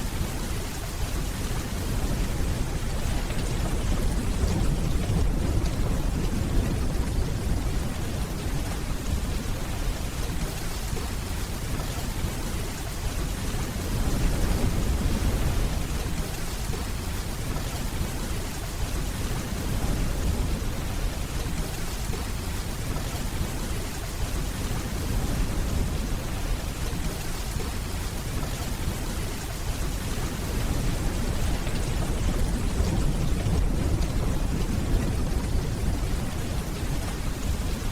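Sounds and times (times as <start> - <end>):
distant thunder rumble: 0.0 - 37.9
heavy rainfall: 0.0 - 37.9.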